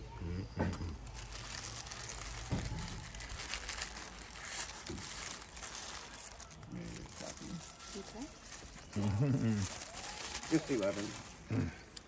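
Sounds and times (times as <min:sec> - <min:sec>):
crinkling and rustling handling: 0:00.5 - 0:12.0.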